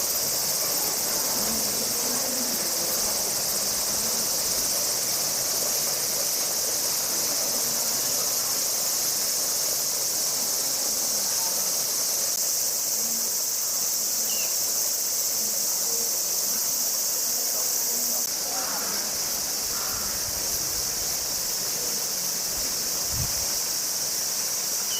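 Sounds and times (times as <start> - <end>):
cicadas buzzing: 0.0 - 24.9.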